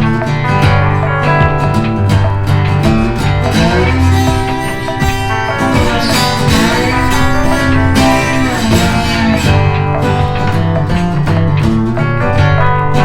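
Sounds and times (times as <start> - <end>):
guitar music over a beat: 0.0 - 13.0.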